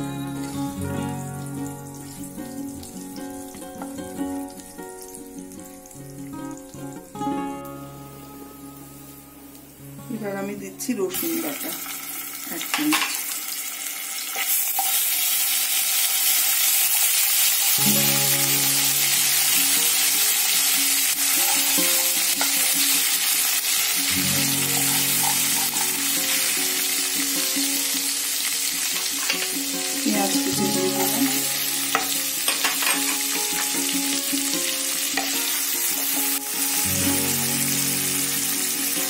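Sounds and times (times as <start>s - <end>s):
soft background music: 0.0s - 13.8s, 17.7s - 39.0s
spices sizzling in hot oil: 0.0s - 39.0s.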